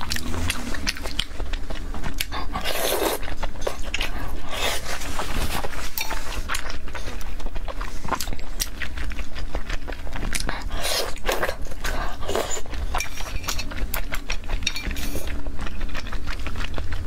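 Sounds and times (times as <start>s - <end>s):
wet chewing and slurping: 0.0s - 17.0s.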